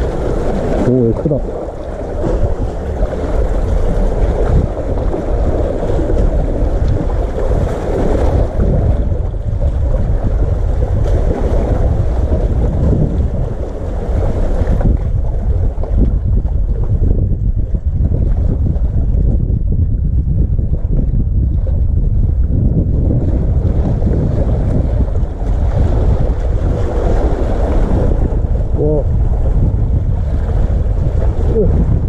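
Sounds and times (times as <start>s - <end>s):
seawater surging: 0.0s - 32.0s
wind buffeting microphone: 0.0s - 32.0s.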